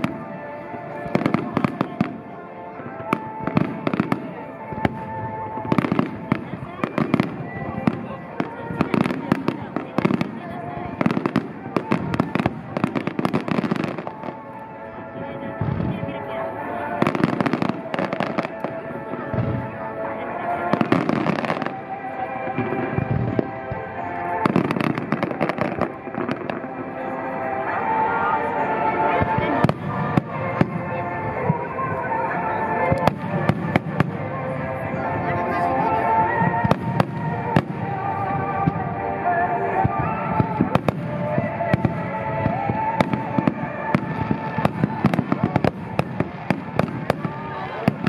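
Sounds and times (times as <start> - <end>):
fireworks bursting: 0.0 - 14.6, 16.8 - 19.8, 20.6 - 27.1, 29.0 - 35.1, 39.6 - 48.0
music playing: 0.0 - 48.0.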